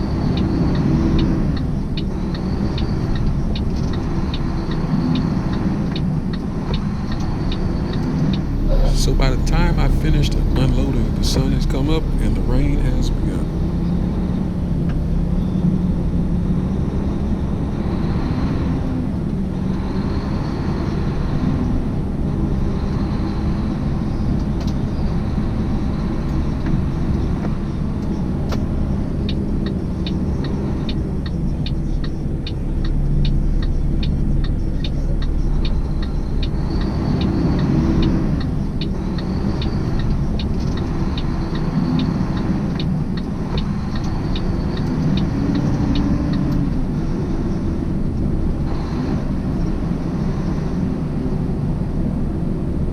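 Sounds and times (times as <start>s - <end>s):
diesel engine and road rumble: 0.0s - 52.9s.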